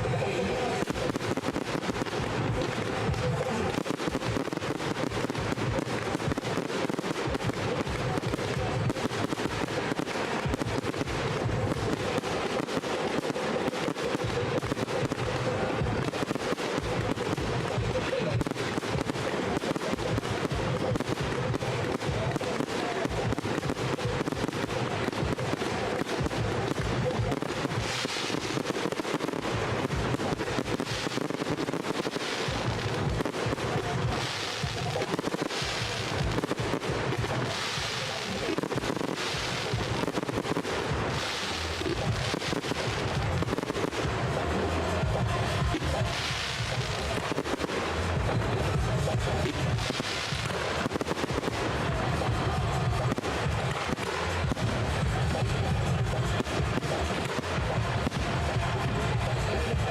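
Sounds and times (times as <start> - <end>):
fireworks crackling and popping: 0.0 - 59.9.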